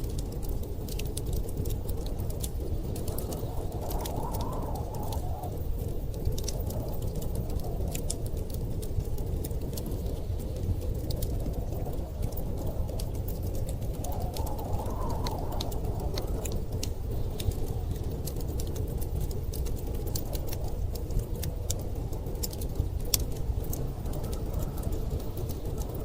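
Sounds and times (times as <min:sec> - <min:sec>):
storm wind rushing: 0:00.0 - 0:26.0
wood fire crackling and popping: 0:00.0 - 0:26.0.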